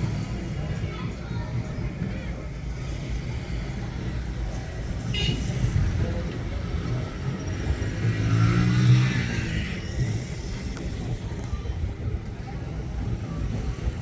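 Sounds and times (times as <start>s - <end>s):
road rumble: 0.0s - 14.0s
vehicle engine: 2.7s - 14.0s.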